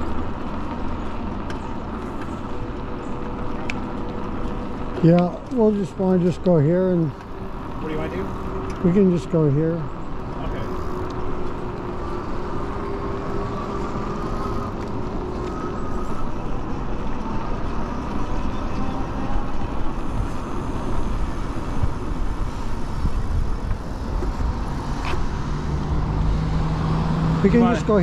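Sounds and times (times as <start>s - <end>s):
rushing wind: 0.0s - 28.0s
tyre noise on pavement: 0.0s - 28.0s.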